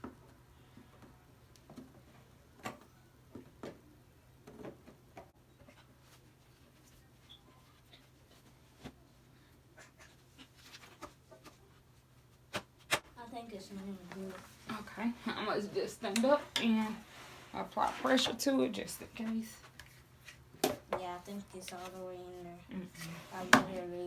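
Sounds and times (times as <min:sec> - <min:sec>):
low steady room hum: 0:00.0 - 0:24.0.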